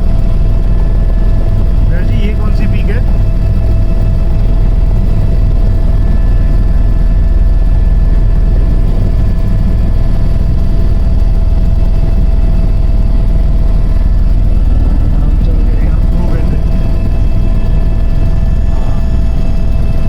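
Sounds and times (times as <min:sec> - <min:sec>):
helicopter rotor and engine rumble: 0:00.0 - 0:20.0
helicopter whine: 0:00.0 - 0:20.0.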